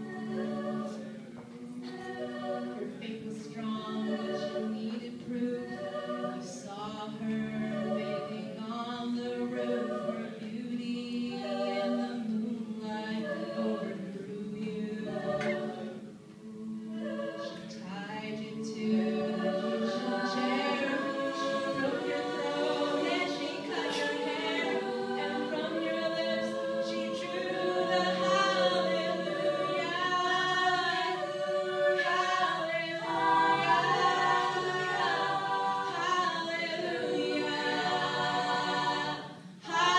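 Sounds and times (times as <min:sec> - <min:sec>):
backing vocal harmonies: 0:00.0 - 0:39.9.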